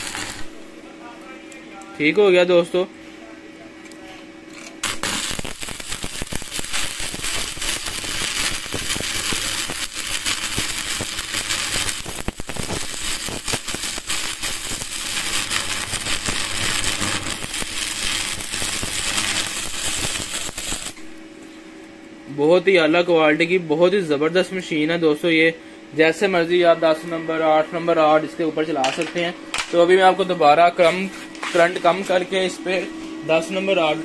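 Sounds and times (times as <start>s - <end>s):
arc welding crackle: 0.0s - 2.9s, 3.9s - 21.5s, 26.0s - 34.0s.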